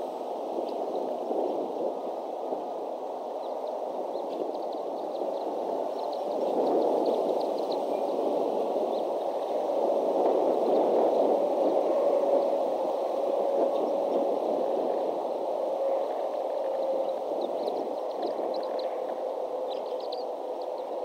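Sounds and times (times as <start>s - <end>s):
faint steady hum: 0.0s - 21.0s
steady rushing noise: 0.0s - 21.0s.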